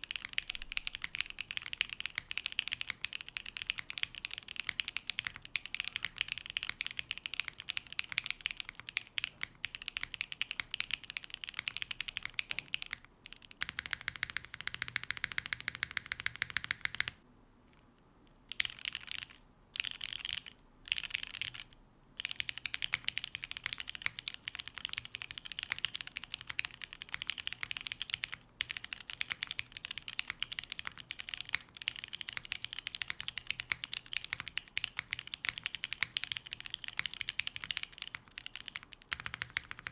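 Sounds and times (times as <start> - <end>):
mechanical keyboard typing: 0.0 - 17.2, 18.5 - 39.9.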